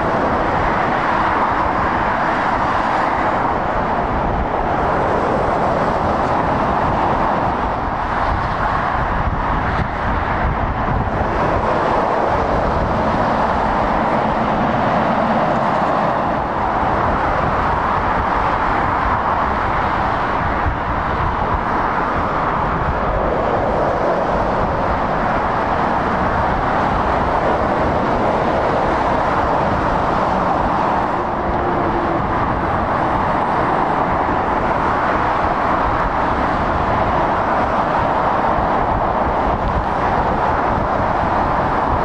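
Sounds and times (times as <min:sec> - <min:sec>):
motorway traffic rushing: 0:00.0 - 0:42.0.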